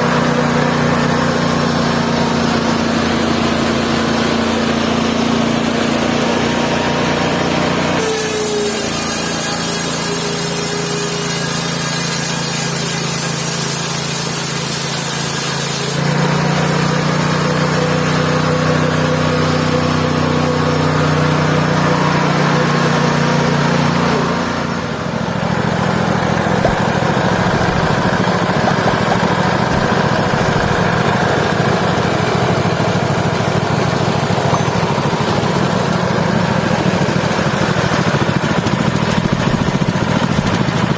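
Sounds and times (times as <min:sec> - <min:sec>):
sawmill engine droning: 0:00.0 - 0:40.9.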